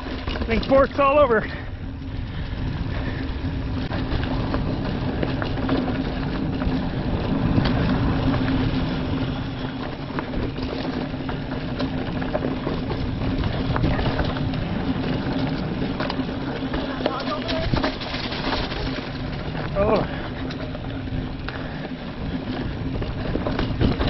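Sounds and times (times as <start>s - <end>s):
bike rattling over bumps: 0.0s - 24.0s
mountain bike rolling on dirt: 0.0s - 24.0s.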